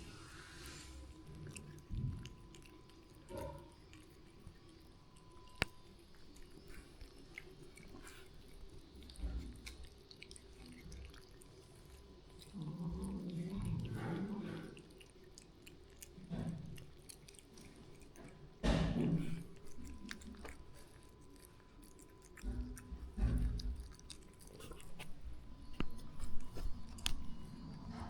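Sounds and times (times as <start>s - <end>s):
soft chewing: 0.0s - 28.0s.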